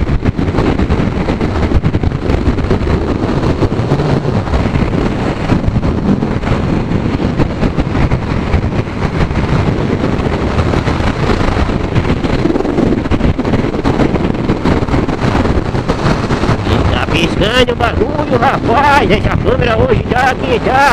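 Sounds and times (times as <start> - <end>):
road noise: 0.0 - 20.9
wind buffeting microphone: 0.0 - 20.9.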